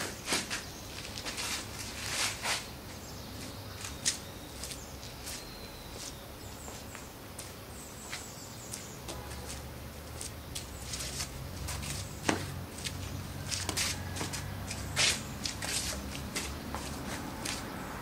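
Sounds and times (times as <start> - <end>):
shoes scuffing on pavement: 0.0 - 18.0.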